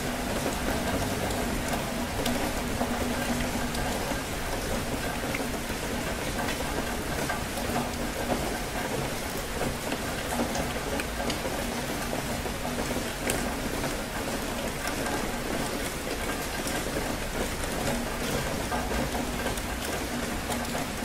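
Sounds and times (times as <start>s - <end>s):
steady rain falling: 0.0s - 21.0s
sharp raindrop ticks: 0.2s - 21.0s.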